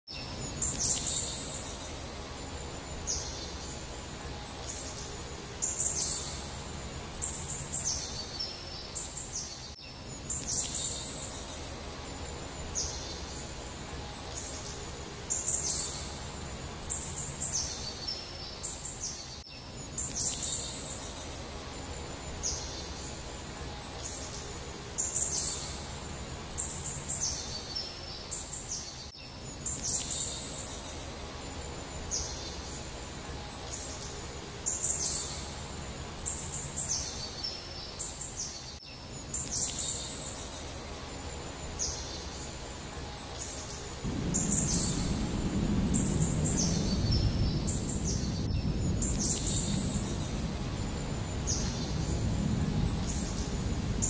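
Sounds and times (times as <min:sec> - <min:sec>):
birds chirping and trilling: 0:00.1 - 0:54.0
steady low background noise: 0:00.1 - 0:54.0.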